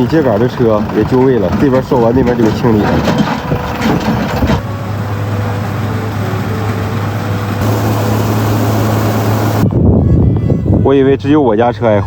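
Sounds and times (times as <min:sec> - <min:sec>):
farm machinery engine running: 0:00.0 - 0:09.8.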